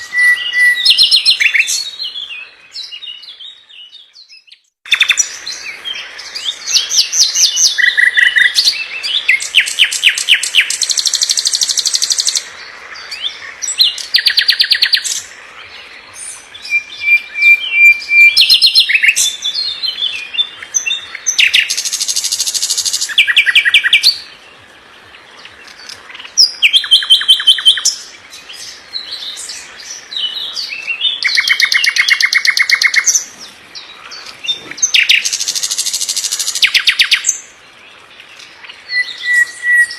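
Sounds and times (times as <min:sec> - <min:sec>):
songbird singing trills and chirps: 0:00.0 - 0:39.9.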